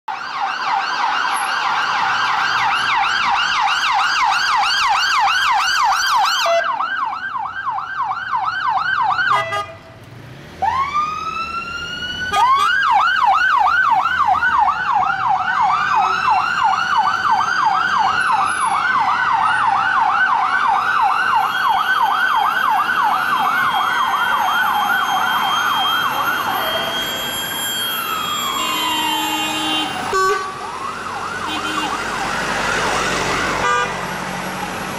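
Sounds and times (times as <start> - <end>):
siren slow rising and falling wails: 0.1 - 9.6, 10.6 - 34.9
police siren yelping: 0.1 - 9.7, 10.6 - 34.9.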